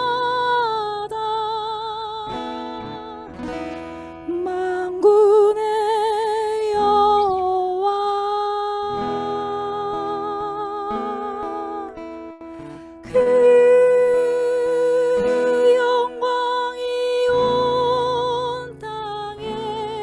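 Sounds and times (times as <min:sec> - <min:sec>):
woman singing worship song: 0:00.0 - 0:03.5, 0:04.2 - 0:20.0
acoustic guitar: 0:00.0 - 0:20.0.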